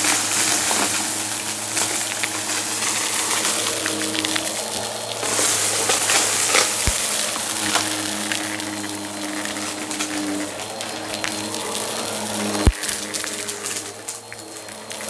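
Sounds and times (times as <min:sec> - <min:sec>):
debris rattling: 0:00.0 - 0:15.0
vacuum cleaner motor humming: 0:00.0 - 0:15.0.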